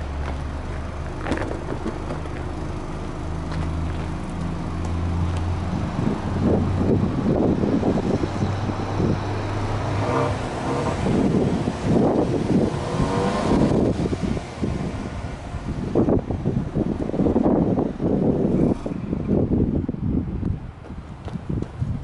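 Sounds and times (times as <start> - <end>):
car exhaust idling and revving: 0.0 - 22.0.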